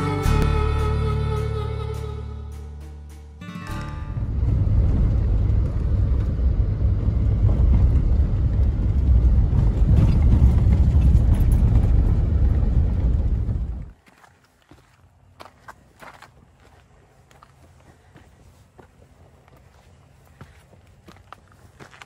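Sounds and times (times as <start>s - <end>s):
car tyres and engine rumble: 3.7s - 22.0s.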